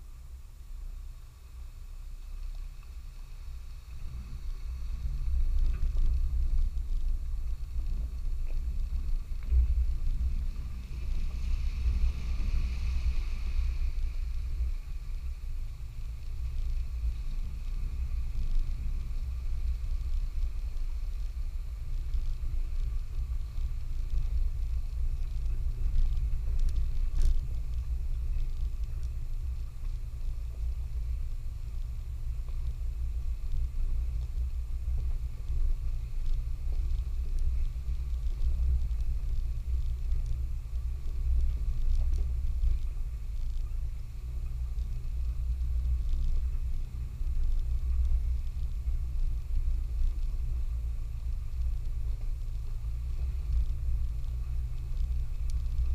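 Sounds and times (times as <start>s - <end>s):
vehicle rumbling on rough trail: 0.0s - 55.9s.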